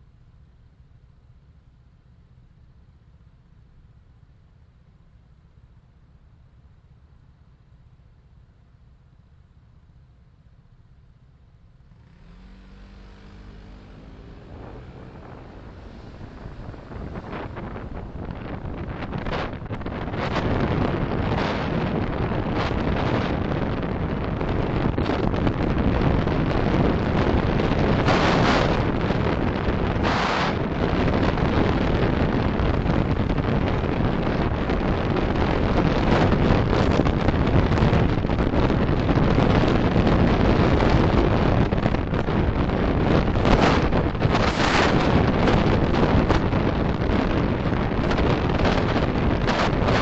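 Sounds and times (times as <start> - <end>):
car road and wind noise: 0.0 - 50.0.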